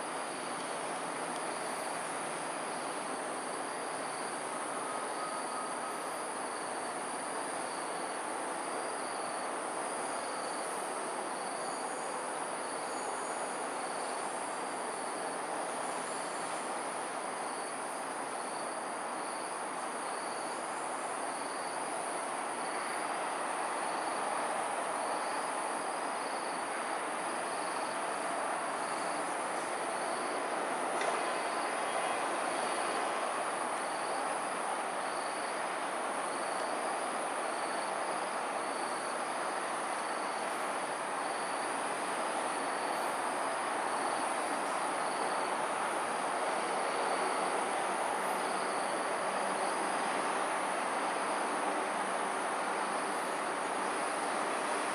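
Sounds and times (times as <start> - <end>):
distant traffic hiss: 0.0 - 54.9
high insect drone: 0.0 - 54.9.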